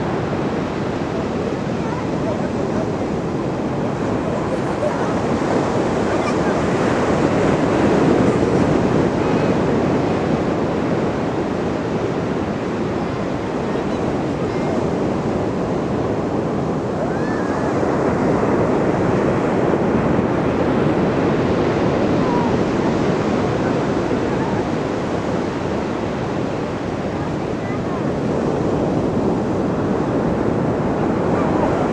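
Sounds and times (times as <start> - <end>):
ocean waves washing ashore: 0.0 - 31.9.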